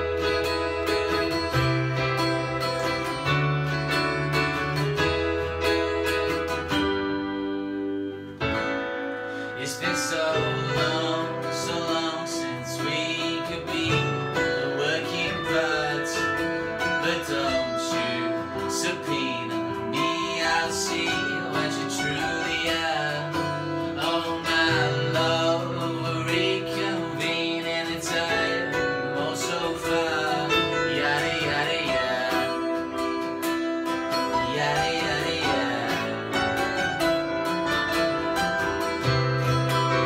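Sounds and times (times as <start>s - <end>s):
acoustic guitar strumming: 0.0s - 40.0s
electric keyboard chords: 0.0s - 40.0s.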